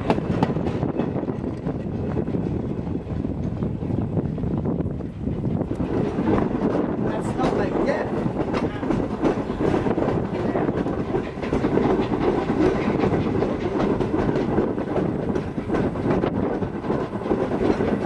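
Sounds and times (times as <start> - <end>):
train rumble: 0.0 - 18.0
train wheels clicking on rail joints: 0.0 - 18.0.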